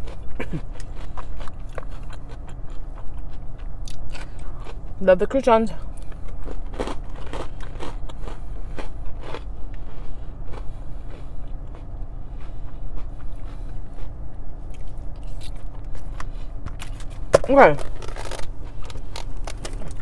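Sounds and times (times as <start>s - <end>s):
chewing and crunching salad: 0.0s - 20.0s.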